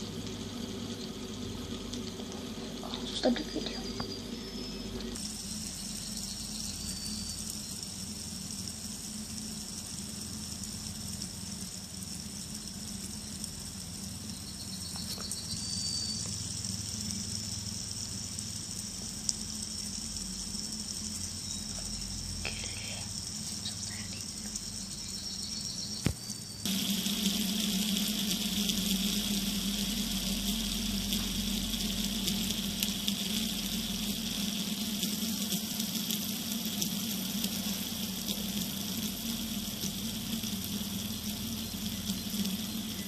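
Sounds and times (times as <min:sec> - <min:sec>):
fidget spinner whirring: 0:00.0 - 0:43.0
low hum: 0:00.0 - 0:43.0.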